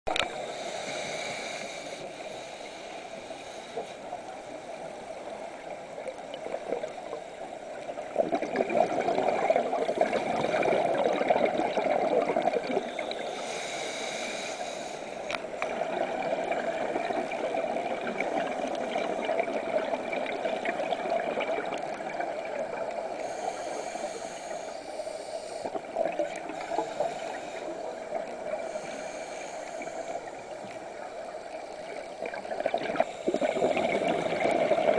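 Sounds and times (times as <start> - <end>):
underwater background wash: 0.1 - 34.9
underwater bubbling and gurgling: 0.1 - 34.9.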